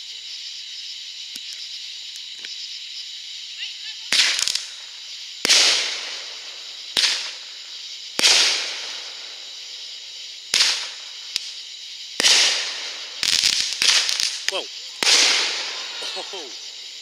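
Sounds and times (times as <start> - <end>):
fireworks bursting with hiss: 0.0 - 17.0.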